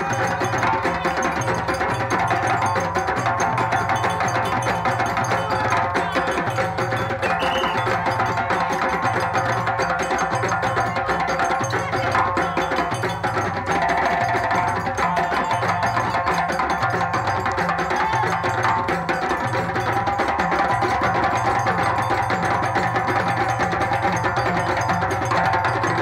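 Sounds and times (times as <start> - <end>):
djembe drums: 0.0 - 26.0.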